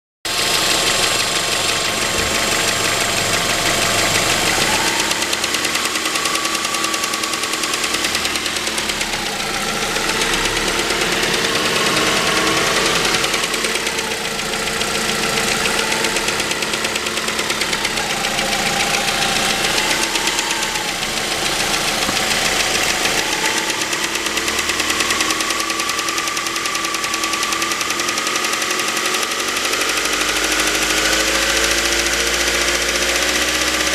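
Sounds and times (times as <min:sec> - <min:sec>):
car engine running with clatter: 0:00.3 - 0:33.9.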